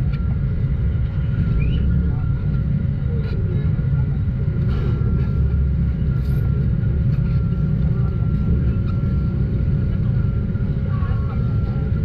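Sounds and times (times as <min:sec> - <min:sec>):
faint constant hum: 0:00.0 - 0:12.0
motor running low rumble: 0:00.0 - 0:12.0.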